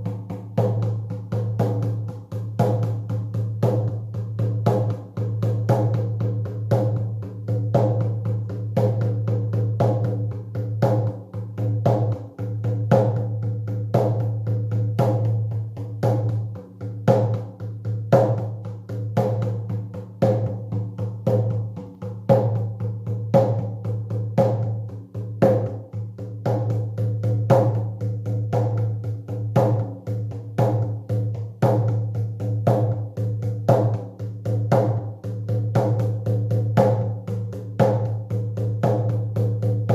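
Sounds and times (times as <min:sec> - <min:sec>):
drum beaten steadily: 0:00.0 - 0:39.9.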